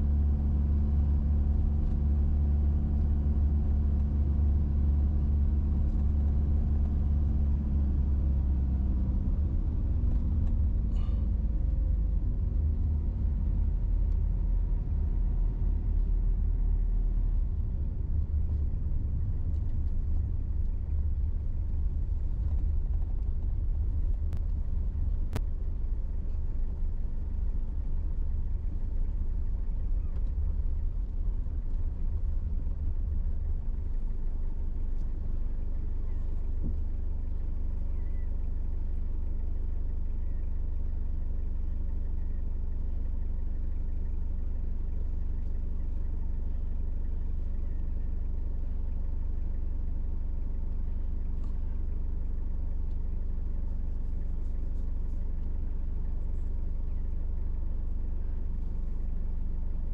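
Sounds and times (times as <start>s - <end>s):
vehicle driving on paved road: 0.0s - 59.9s.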